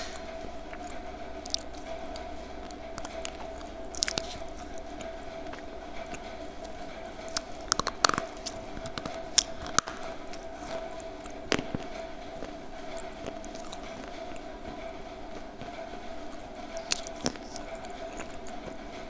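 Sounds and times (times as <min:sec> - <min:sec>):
crunching bites of hard candy: 0:00.0 - 0:14.4, 0:16.7 - 0:18.7
chewing: 0:00.0 - 0:19.0.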